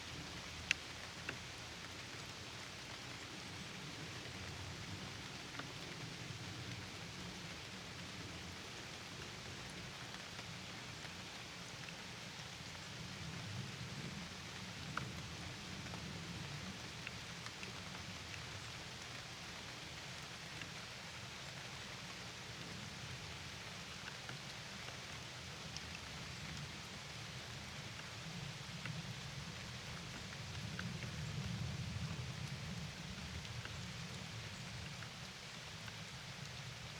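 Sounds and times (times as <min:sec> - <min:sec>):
rain falling on a lake: 0:00.0 - 0:36.9.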